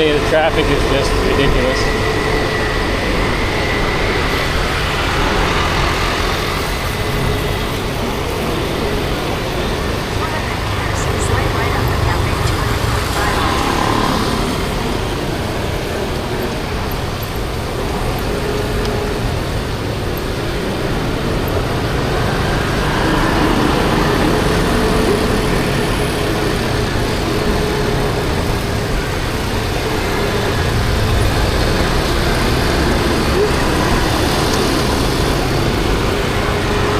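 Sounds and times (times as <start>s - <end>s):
road noise: 0.0s - 36.9s
small motorbike engines: 0.0s - 36.9s.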